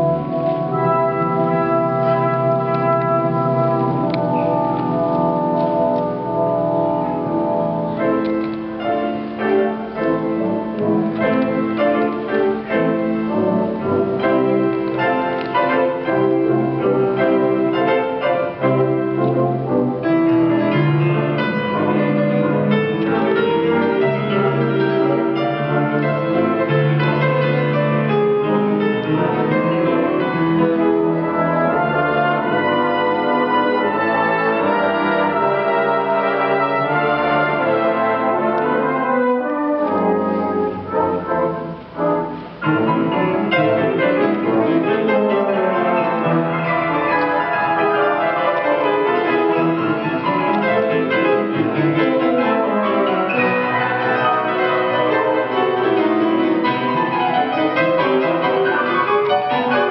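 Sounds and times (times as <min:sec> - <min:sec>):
brass band playing: 0:00.0 - 0:59.9
grand piano: 0:00.0 - 0:59.9.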